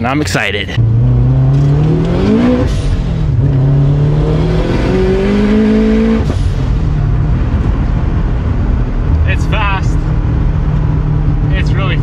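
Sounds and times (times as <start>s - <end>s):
car engine accelerating hard: 0.8s - 12.0s.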